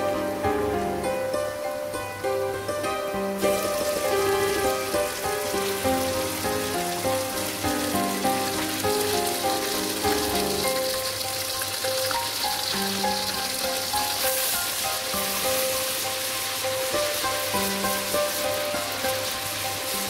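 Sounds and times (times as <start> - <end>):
background music: 0.0 - 20.0
onions sizzling in hot oil: 0.0 - 20.0.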